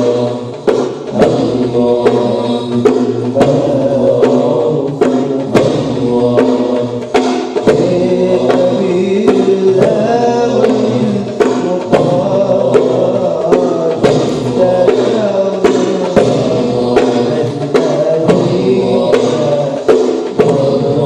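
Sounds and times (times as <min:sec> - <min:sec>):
group chant singing: 0:00.0 - 0:21.0
percussion strikes: 0:00.0 - 0:21.0.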